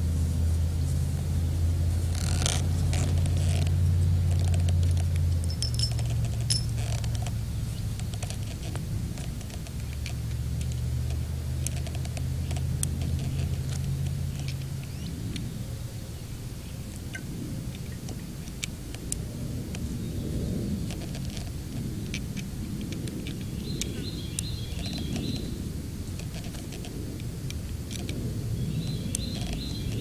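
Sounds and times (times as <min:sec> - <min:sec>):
low hum: 0:00.0 - 0:24.4.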